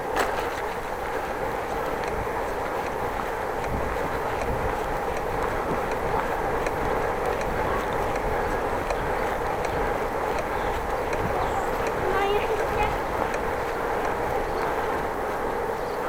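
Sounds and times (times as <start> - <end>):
bicycle tyres and wind rushing: 0.0 - 16.0
faint ticking from bike: 0.7 - 16.0.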